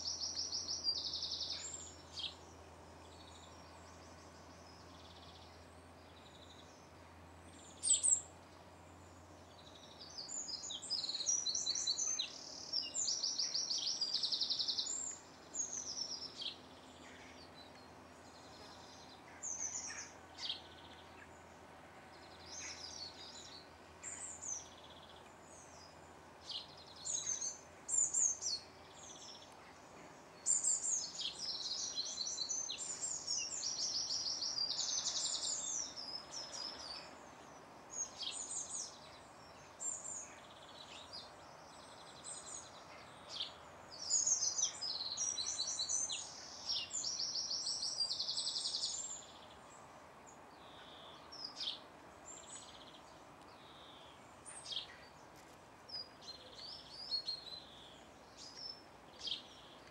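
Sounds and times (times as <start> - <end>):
faint background noise: 0.0 - 59.9.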